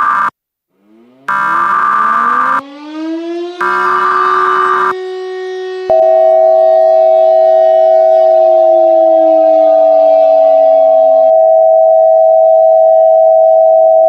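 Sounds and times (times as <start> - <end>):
synthesized siren wailing: 0.0 - 14.0
loud steady alert tone: 0.8 - 13.6.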